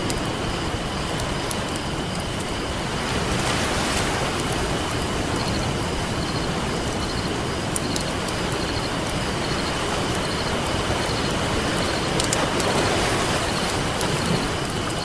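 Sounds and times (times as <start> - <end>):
campfire crackling: 0.0 - 15.0
ocean surf rushing: 0.0 - 15.0.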